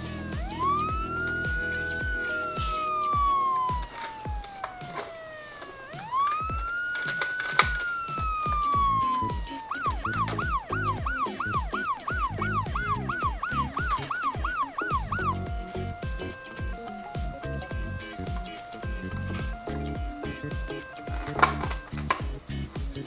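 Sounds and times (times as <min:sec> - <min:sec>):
low thumping beat: 0:00.0 - 0:05.2, 0:05.9 - 0:23.0
toy siren wailing and yelping: 0:00.0 - 0:22.2.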